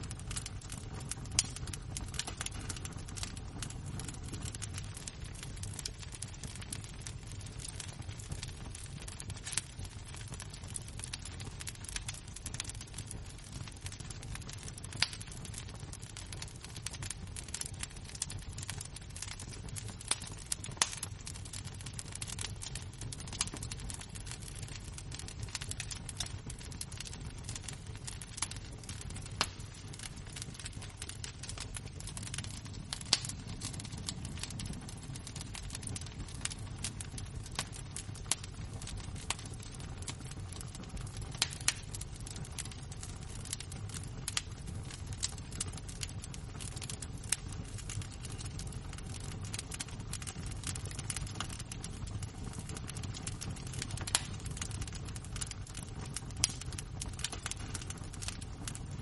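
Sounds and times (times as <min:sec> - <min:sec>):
fire crackling and popping: 0:00.0 - 0:59.0
low fire rumble: 0:00.0 - 0:59.0.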